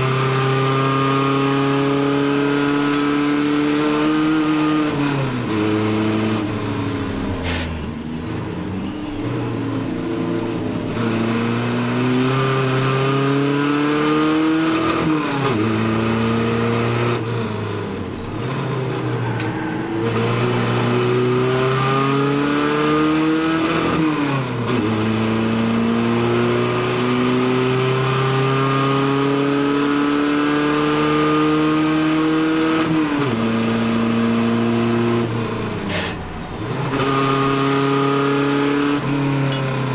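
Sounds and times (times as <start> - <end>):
truck engine under racing load: 0.0 - 39.9
wind and road noise: 0.0 - 39.9.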